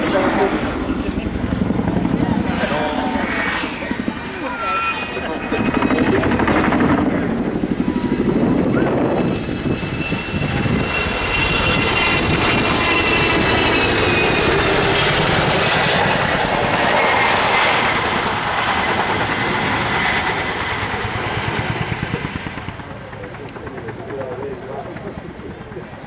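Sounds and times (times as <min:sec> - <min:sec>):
helicopter rotor beat: 0:00.0 - 0:26.0
turbine engine whine: 0:00.0 - 0:26.0.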